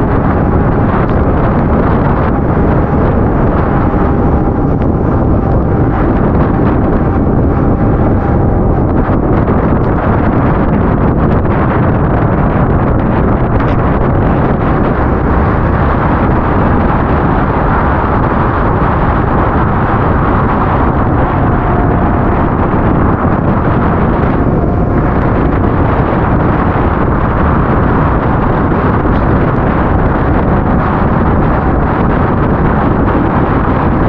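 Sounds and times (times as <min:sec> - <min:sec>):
motorcycle engine: 0:00.0 - 0:34.0
road noise: 0:00.0 - 0:34.0
wind rush over microphone: 0:00.0 - 0:34.0.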